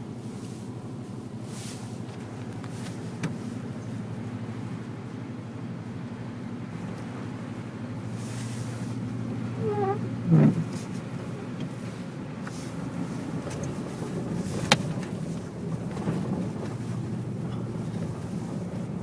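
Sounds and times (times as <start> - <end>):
vehicle engine and road drone: 0.0 - 19.0.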